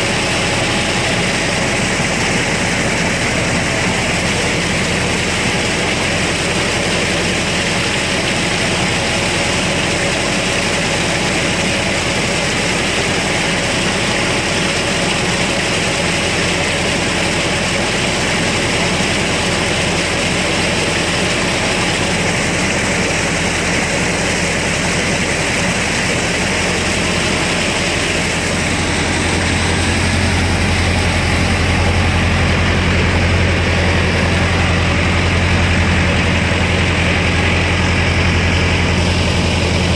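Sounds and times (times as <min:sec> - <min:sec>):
rotavator churning through mud: 0:00.0 - 0:39.9
tractor diesel engine running: 0:00.0 - 0:39.9.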